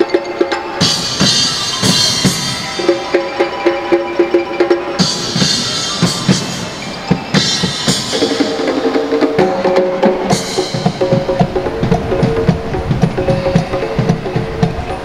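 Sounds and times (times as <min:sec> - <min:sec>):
drum beat: 0:00.0 - 0:15.0
held instrumental notes: 0:00.0 - 0:15.0.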